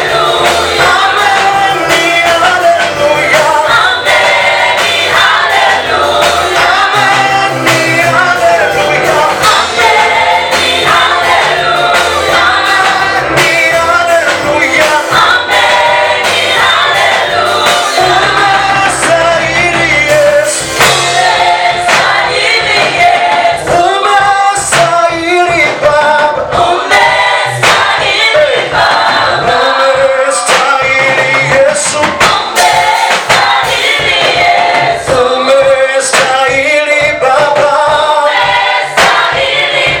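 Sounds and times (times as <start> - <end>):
choir singing gospel song: 0.0 - 40.0
instrumental backing with beat: 0.0 - 40.0.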